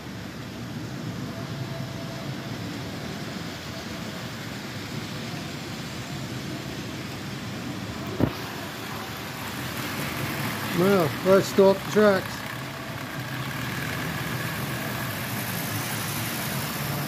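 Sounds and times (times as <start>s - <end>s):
model train rolling on rails: 0.0s - 17.0s.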